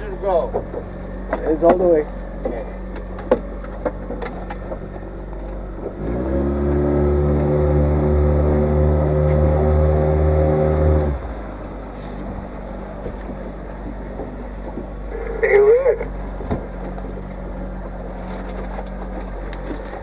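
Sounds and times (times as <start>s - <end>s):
boat motor idling: 0.0s - 20.0s.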